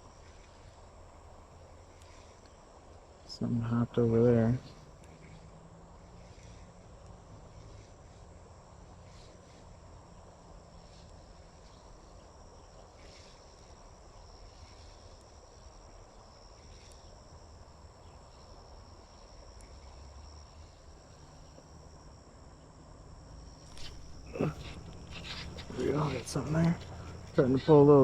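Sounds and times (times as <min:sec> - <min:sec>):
insects trilling: 0:00.0 - 0:28.0
low steady rumble: 0:00.0 - 0:28.0.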